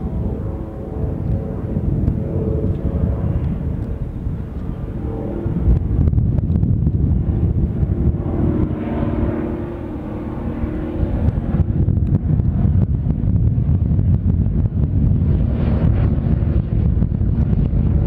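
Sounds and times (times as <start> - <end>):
aircraft engines: 0.0 - 18.0
wind rumble on microphone: 0.0 - 18.0.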